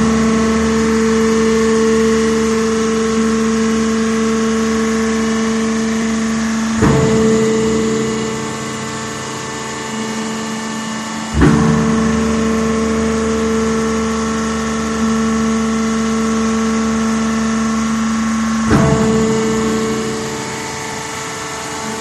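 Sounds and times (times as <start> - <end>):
crusher mechanical hum: 0.0 - 22.0
loud clunk: 0.0 - 22.0.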